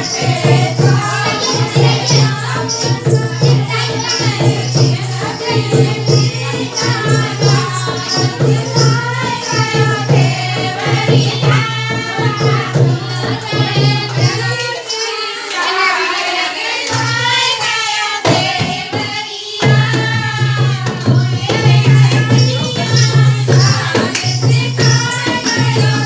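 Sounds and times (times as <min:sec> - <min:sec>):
folk song singing: 0:00.0 - 0:26.0
percussion with jingles: 0:00.0 - 0:26.0.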